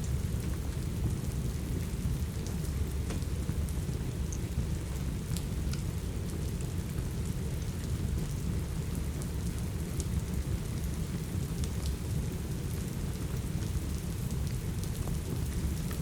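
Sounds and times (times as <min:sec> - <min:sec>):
steady rain: 0:00.0 - 0:16.0
wood fire crackles: 0:00.0 - 0:16.0.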